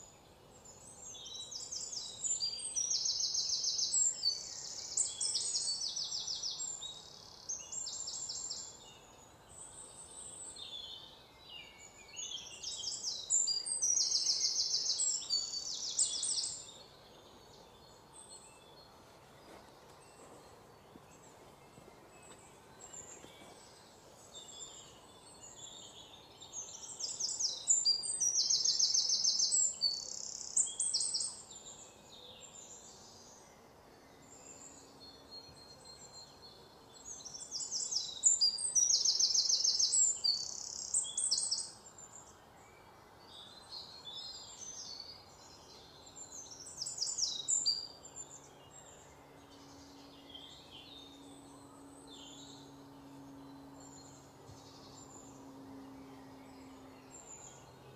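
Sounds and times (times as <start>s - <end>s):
faint steady background noise: 0.0s - 57.9s
songbirds trilled chirping: 0.0s - 57.9s.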